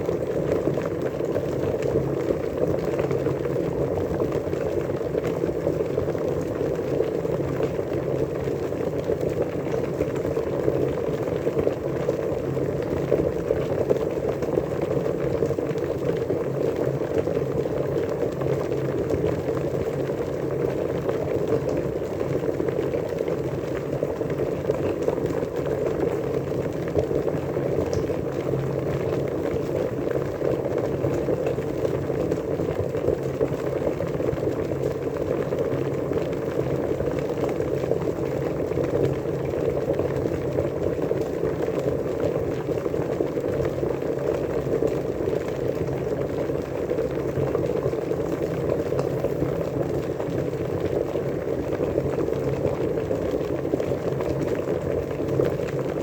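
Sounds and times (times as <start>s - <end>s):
water boiling: 0.0s - 56.0s.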